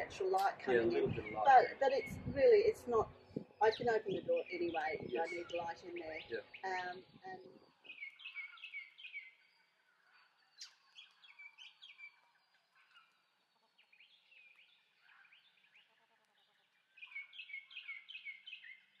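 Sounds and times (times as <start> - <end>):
faint birdsong chirps: 0.0 - 19.0.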